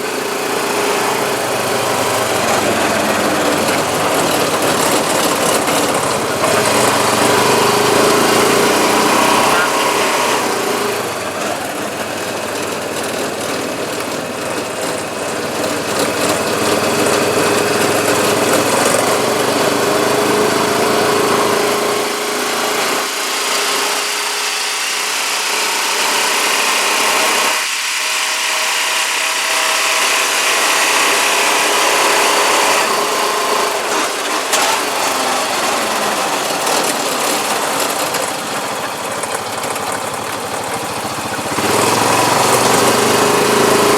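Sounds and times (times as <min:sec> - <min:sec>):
atv engine running: 0:00.0 - 0:43.9.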